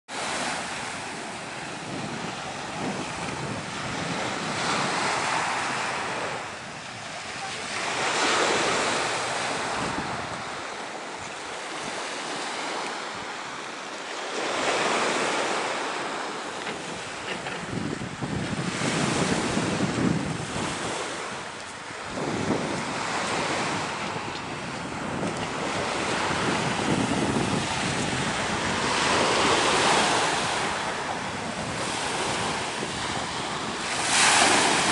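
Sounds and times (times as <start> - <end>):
wind buffeting microphone: 0.1 - 13.5, 14.4 - 34.9
waves breaking on pebble beach: 0.1 - 34.9.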